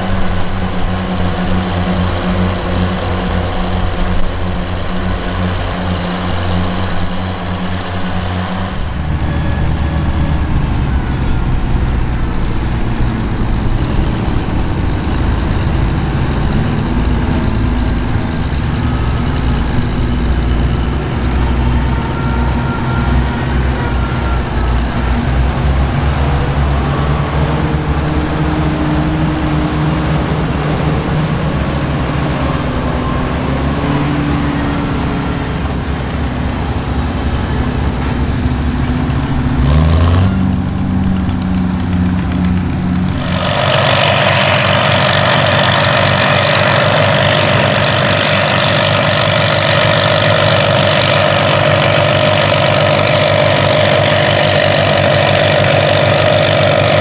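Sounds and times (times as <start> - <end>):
tractor engines running under load: 0.0 - 57.0.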